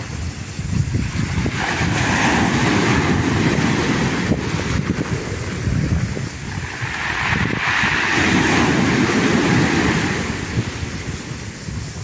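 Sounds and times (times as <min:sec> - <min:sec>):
surf on pebbly shore: 0:00.0 - 0:12.0
wind buffeting microphone: 0:00.0 - 0:12.0.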